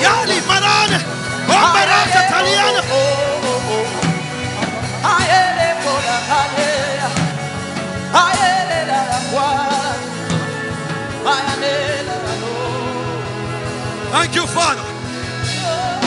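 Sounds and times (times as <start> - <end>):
worship music with steady beat: 0.0 - 16.0.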